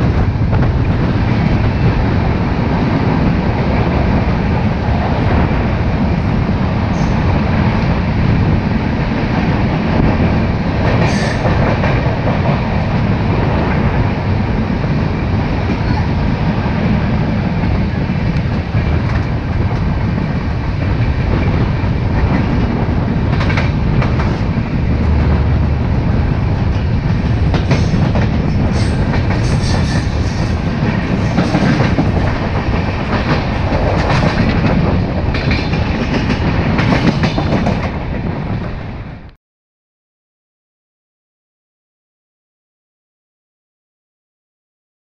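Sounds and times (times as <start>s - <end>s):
train rumble and air rush: 0.0s - 39.4s.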